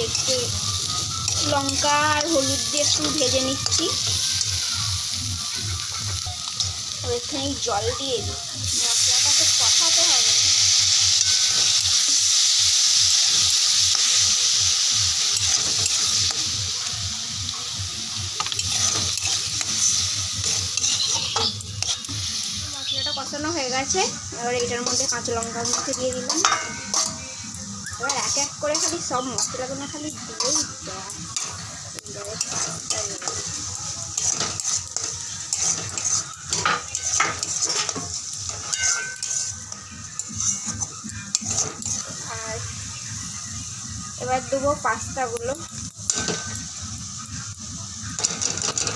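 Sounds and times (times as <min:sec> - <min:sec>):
spatula stirring and scraping pan: 0:00.0 - 0:16.6, 0:18.3 - 0:22.6, 0:23.2 - 0:42.8, 0:46.0 - 0:47.2
masala sizzling in a pan: 0:00.0 - 0:48.9.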